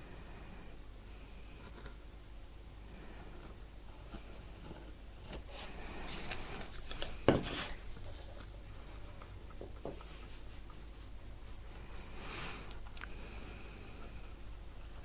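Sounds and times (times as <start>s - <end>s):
rustling and handling noise: 2.9s - 15.0s.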